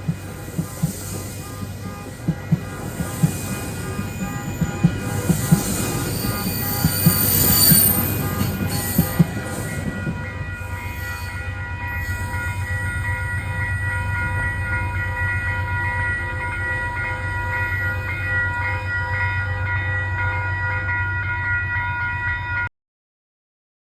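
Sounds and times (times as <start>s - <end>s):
high-pitched whine: 0.0s - 20.2s
train rumbling: 0.0s - 22.7s.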